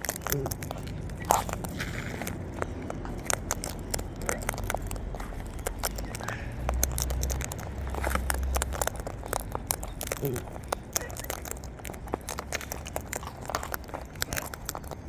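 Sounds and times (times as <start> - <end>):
birds cracking seed: 0.0 - 15.0
low rumble: 0.0 - 15.0.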